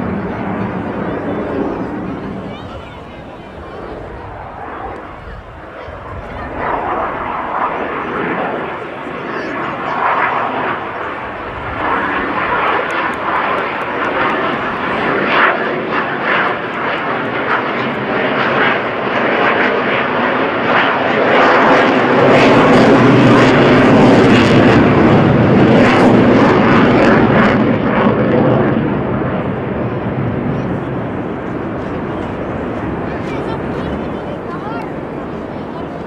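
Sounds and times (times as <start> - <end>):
fighter jet flying past: 0.0 - 36.0.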